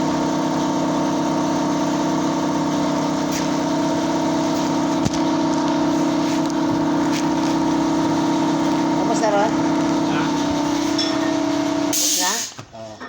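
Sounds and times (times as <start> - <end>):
steady machine hum: 0.0 - 12.4.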